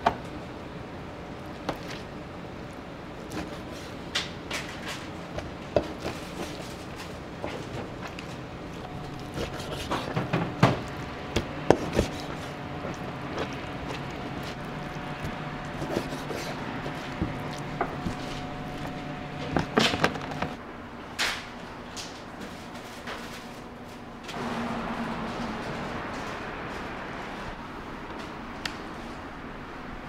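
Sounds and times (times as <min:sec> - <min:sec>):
kitchen equipment hum: 0:00.0 - 0:30.0.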